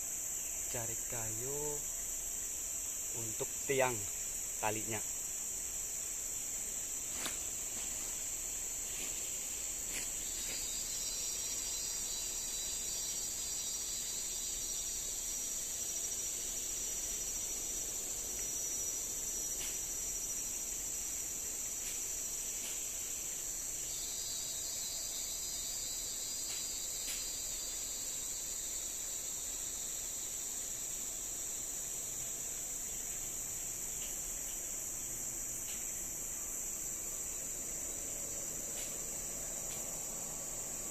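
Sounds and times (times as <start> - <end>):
high-pitched insect chorus: 0.0 - 40.9
lower insect buzz: 0.0 - 40.9.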